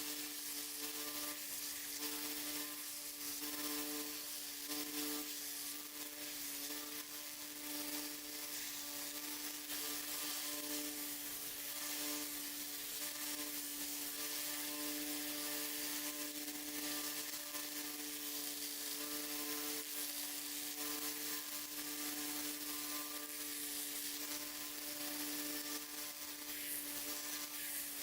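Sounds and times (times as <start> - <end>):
electric power tool humming: 0.0 - 28.0.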